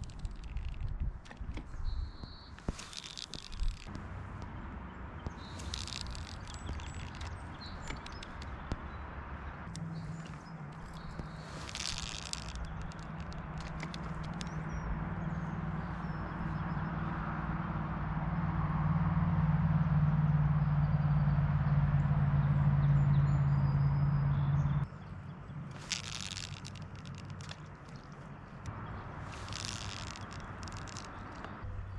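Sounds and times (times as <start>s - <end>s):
low engine hum: 0.0s - 31.9s.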